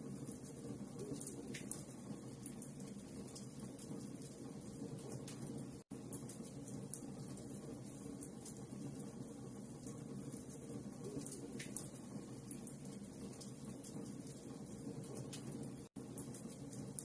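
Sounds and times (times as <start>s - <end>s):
fire crackles and pops: 0.2s - 17.0s.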